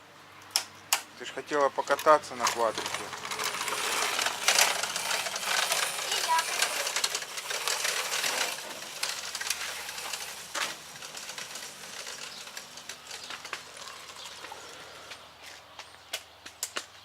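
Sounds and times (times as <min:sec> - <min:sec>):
quad bike engine and tyres: 0:00.3 - 0:17.0
clicks and crackles: 0:00.4 - 0:17.0.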